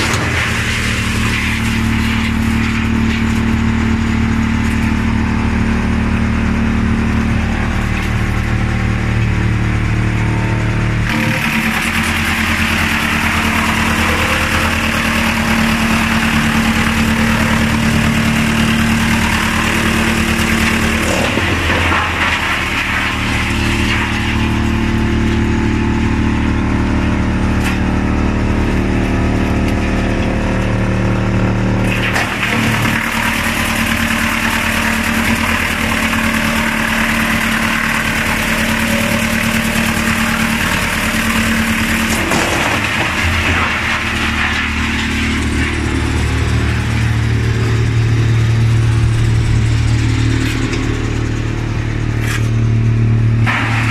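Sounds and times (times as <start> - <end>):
wood chipper chipping log: 0.0 - 53.9
wood chipper machine hum: 0.0 - 53.9.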